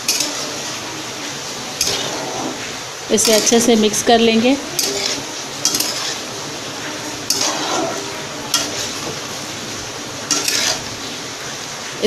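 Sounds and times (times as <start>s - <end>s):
metal spatula scraping pan: 0.0s - 11.6s
frying sizzle: 0.0s - 12.0s.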